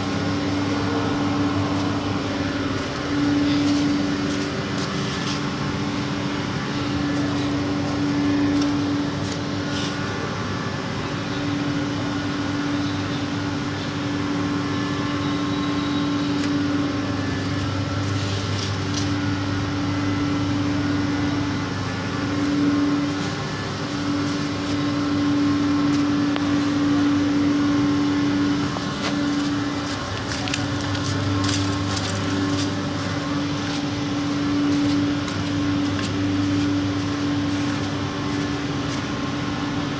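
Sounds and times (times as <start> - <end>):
higher machine tone: 0.0 - 39.9
machinery humming: 0.0 - 39.9.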